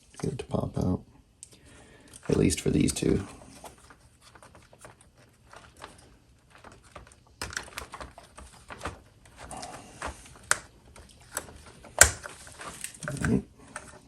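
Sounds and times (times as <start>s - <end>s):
plastic tabs clicking and rattling: 2.1s - 14.0s.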